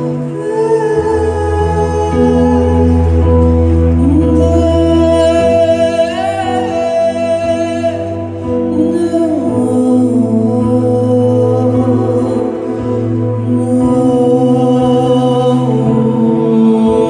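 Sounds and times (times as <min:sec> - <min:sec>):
man singing a slow ballad: 0:00.0 - 0:17.0.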